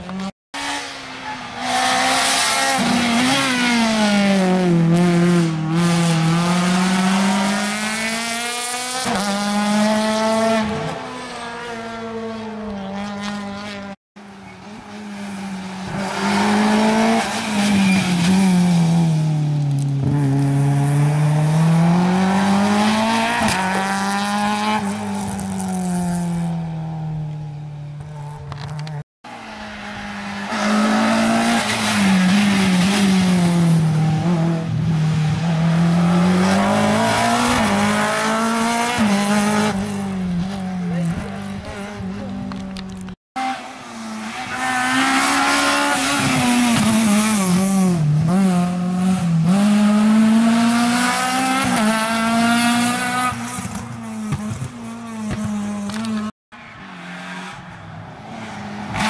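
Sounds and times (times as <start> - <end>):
rally car engine accelerating: 0.0 - 56.3.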